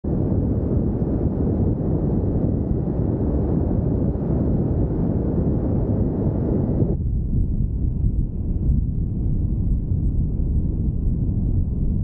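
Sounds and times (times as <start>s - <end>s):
aircraft engine: 0.0s - 12.0s
wind buffeting microphone: 0.0s - 12.0s.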